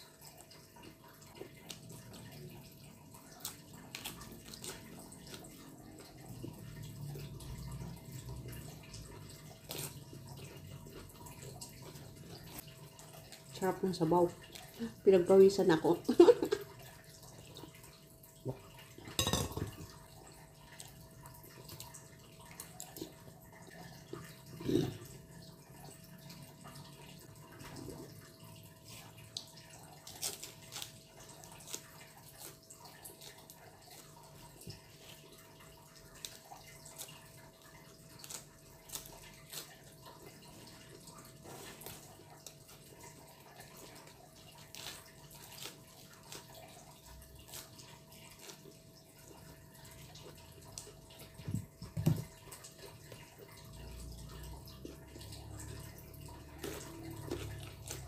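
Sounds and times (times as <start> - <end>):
chewing lettuce: 0.0 - 15.0, 16.0 - 58.0.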